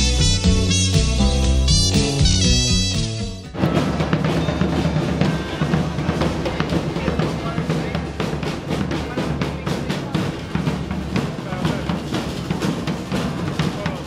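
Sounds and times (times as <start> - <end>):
bass drums and hand drums: 0.0 - 14.0.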